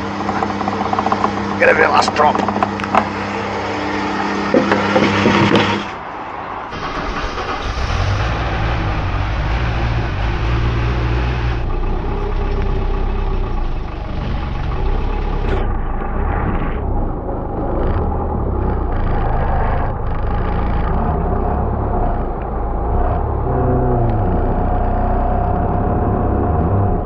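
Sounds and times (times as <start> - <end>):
steady machine hum: 0.0 - 6.1, 9.9 - 27.0
diesel engine starting and running: 0.0 - 27.0.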